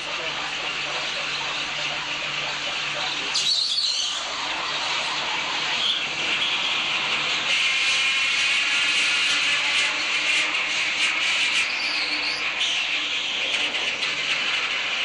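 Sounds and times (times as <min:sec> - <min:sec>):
hiss-like mechanical noise: 0:00.0 - 0:15.0.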